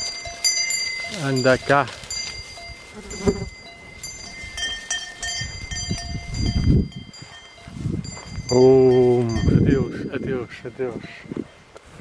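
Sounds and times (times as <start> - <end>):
cow bells clanking: 0.0 - 11.7
animals rustling: 0.0 - 12.0.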